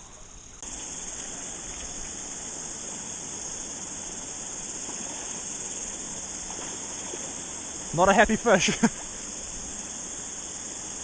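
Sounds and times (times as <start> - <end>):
cicada chorus: 0.0 - 11.0
low hiss: 0.0 - 11.0.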